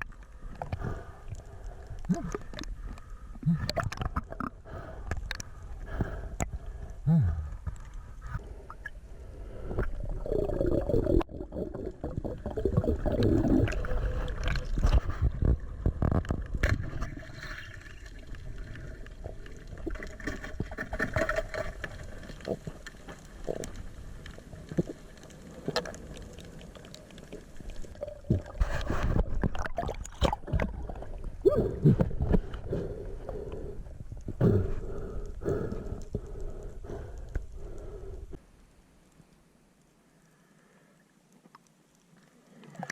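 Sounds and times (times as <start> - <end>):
underwater gurgling and bubbles: 0.0 - 42.9.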